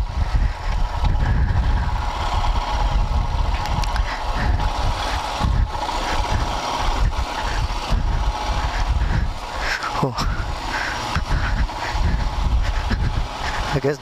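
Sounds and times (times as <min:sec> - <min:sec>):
wind rumble on microphone: 0:00.0 - 0:13.8
motorcycle engine running: 0:00.0 - 0:14.0
tyres through wet mud: 0:00.0 - 0:14.0.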